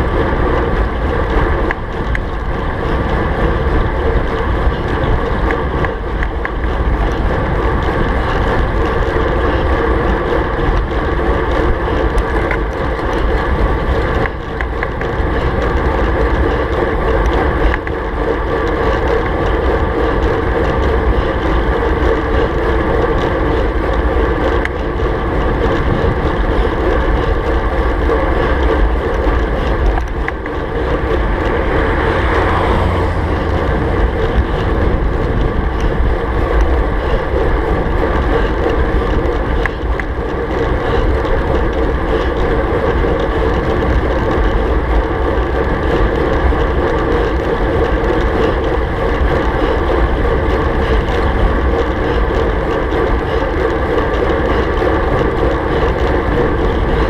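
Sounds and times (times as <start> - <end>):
road and tyre rumble: 0.0 - 57.0
wind rushing over microphone: 0.0 - 57.0.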